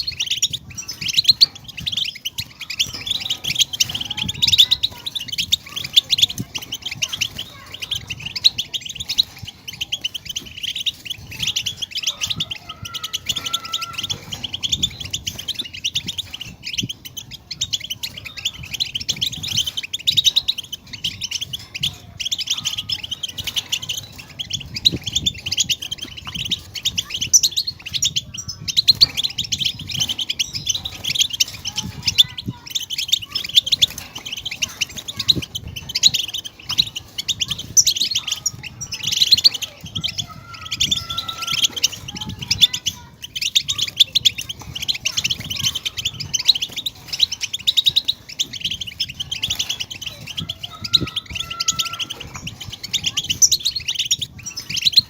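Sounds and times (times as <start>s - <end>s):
finches twittering and singing: 0.0s - 55.0s.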